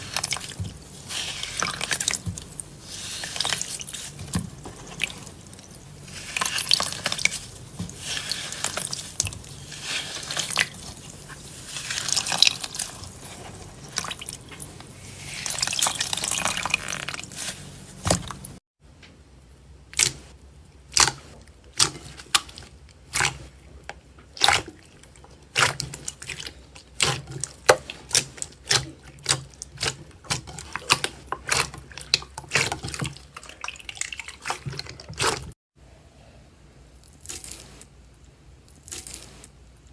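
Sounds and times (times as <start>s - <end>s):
slime squelching: 0.0s - 18.6s, 19.9s - 35.6s.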